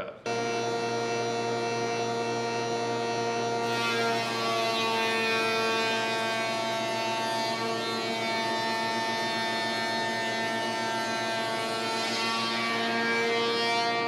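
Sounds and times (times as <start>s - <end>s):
woodworking shaper whining hum: 0.3s - 14.0s.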